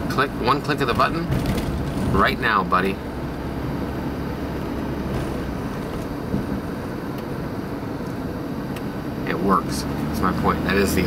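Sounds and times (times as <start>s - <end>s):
car engine cruising: 0.0s - 11.0s
road noise: 0.0s - 11.0s.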